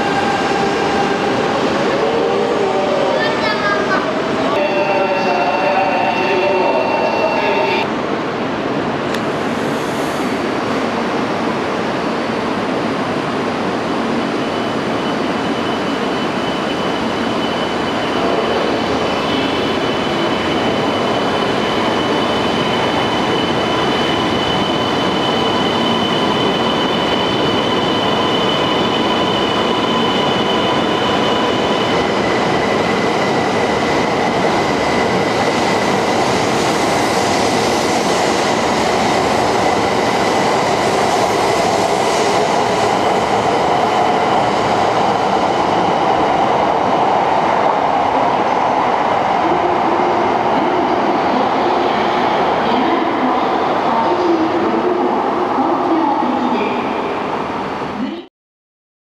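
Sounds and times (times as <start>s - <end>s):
train whine: 0.0s - 11.0s, 14.0s - 51.8s.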